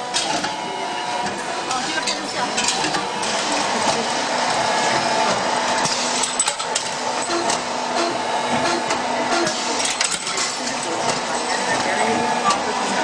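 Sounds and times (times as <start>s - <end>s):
lathe machine hum: 0.0s - 13.0s.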